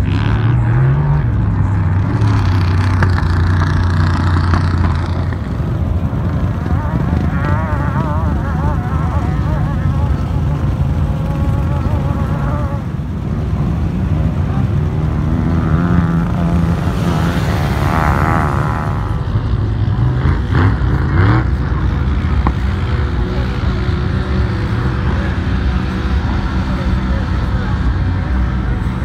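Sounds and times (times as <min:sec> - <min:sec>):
off-road vehicle engines revving: 0:00.0 - 0:29.0.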